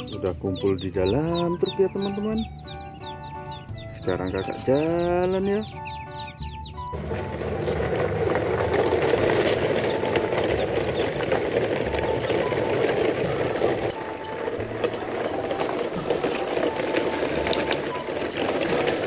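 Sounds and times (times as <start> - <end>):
toy truck wheels rattling on dirt: 0.0 - 19.0.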